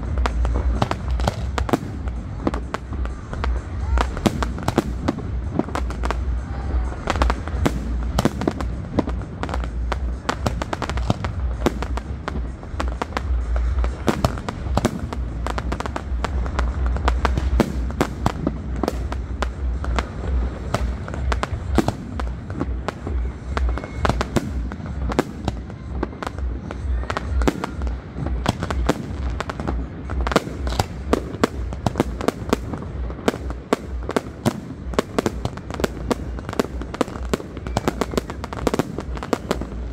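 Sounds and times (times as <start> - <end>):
fireworks bangs and crackles: 0.0 - 39.9
low rumble: 0.0 - 39.9.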